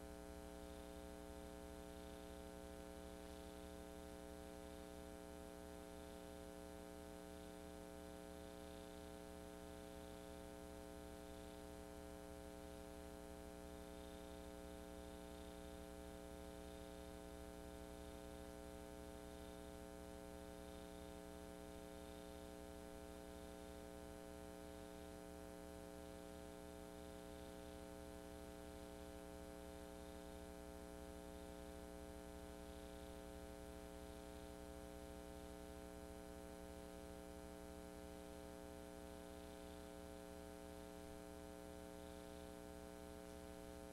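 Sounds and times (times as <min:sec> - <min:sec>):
faint electrical hum with hiss: 0:00.0 - 0:43.9.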